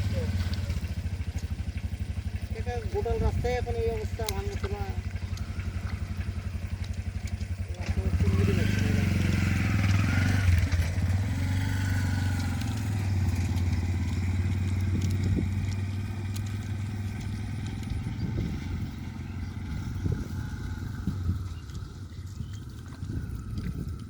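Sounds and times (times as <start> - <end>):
small engine humming: 0.0 - 24.0.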